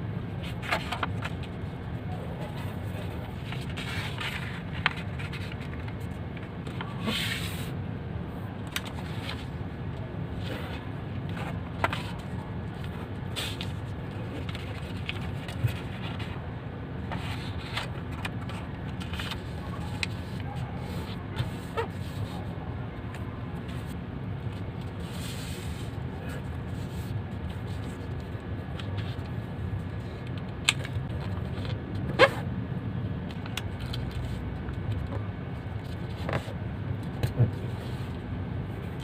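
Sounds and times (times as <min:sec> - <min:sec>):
steady low rumble: 0:00.0 - 0:39.0
paper folding crackles and rustles: 0:00.4 - 0:07.8, 0:08.7 - 0:09.6, 0:10.3 - 0:16.4, 0:17.0 - 0:32.0, 0:33.3 - 0:38.2.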